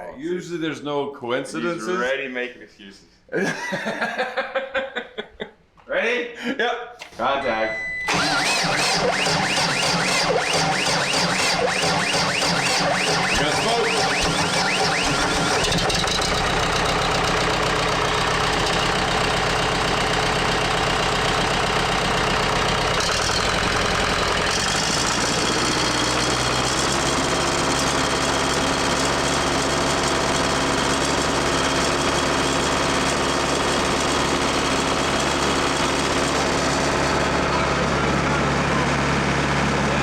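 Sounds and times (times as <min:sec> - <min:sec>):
diesel engine running: 0:07.1 - 0:40.0.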